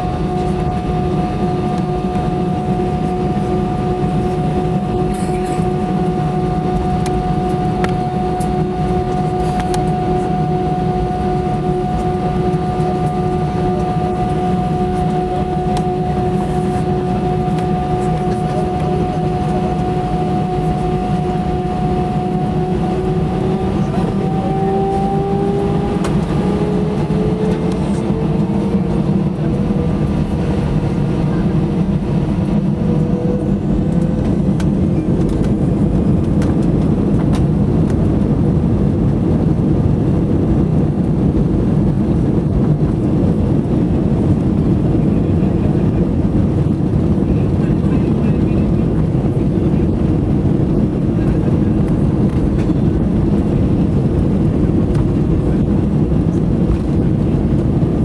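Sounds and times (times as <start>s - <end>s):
jet engine and airflow roar: 0.0s - 58.0s
rising whine: 0.0s - 58.0s.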